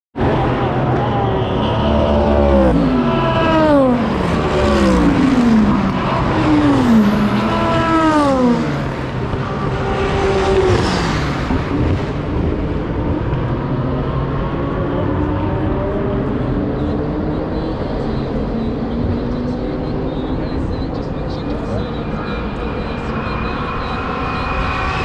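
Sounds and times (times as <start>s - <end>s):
race cars passing at full speed: 0.2s - 25.0s.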